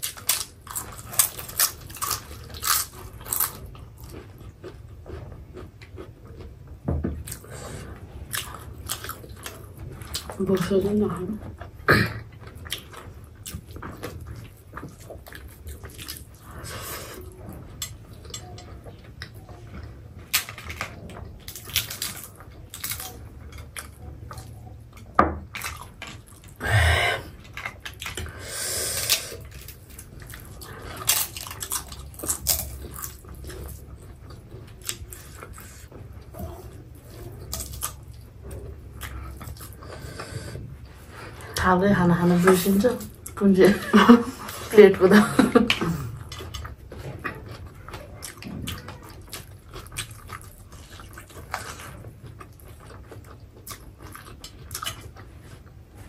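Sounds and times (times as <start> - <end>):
people chewing and eating: 0.0 - 56.0.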